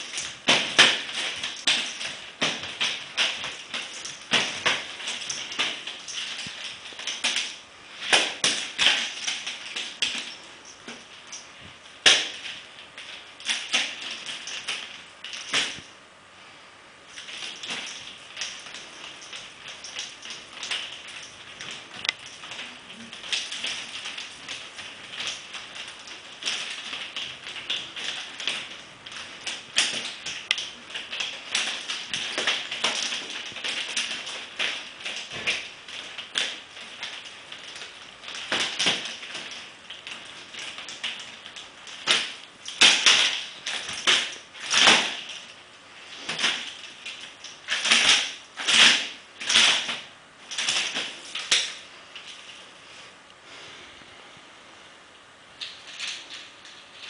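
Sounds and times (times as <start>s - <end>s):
metal chain clicking and rattling: 0.0s - 15.9s, 17.1s - 52.6s.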